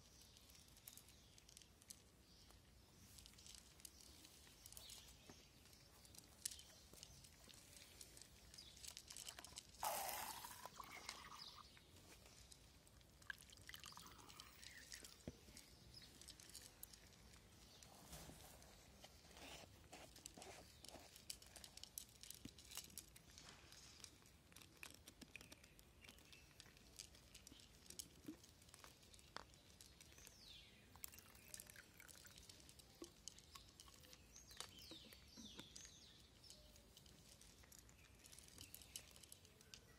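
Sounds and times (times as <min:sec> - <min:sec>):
cats chewing dry kibble: 0:00.0 - 0:39.9.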